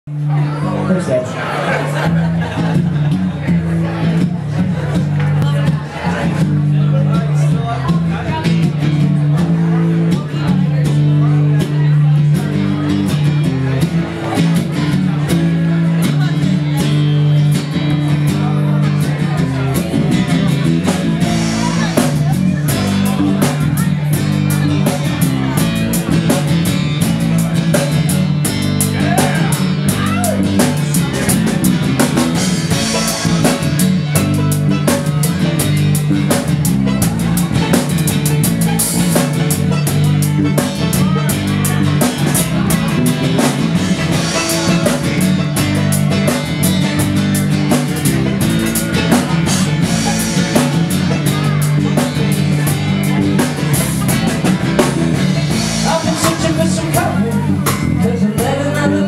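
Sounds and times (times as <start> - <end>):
guitars: 0.0 - 59.0
drum kit steady beat: 1.9 - 59.0.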